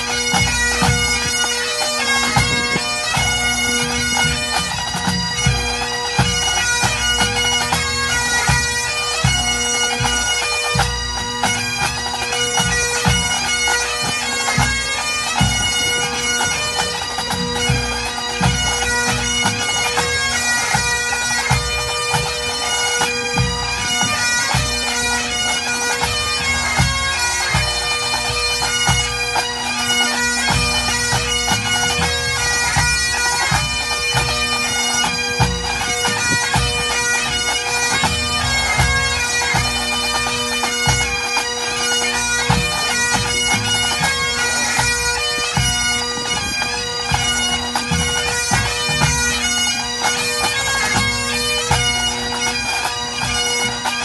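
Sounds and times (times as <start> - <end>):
bagpipes playing: 0.0 - 54.0.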